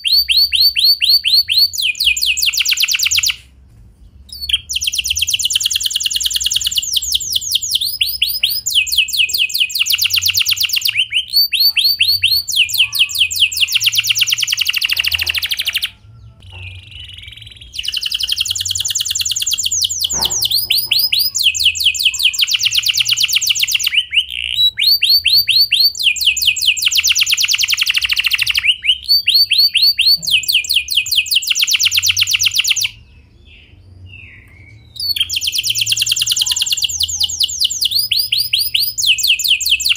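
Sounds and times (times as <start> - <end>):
canary trilling: 0.0 - 3.5, 4.3 - 39.9.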